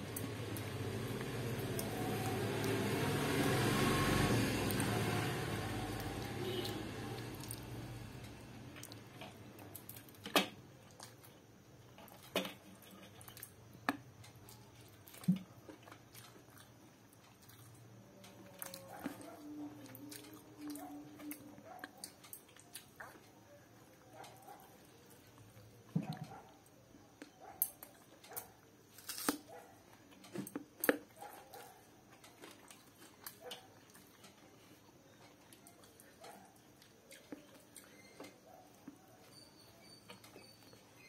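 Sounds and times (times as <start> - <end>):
chewing and wet squishing: 0.1 - 41.0.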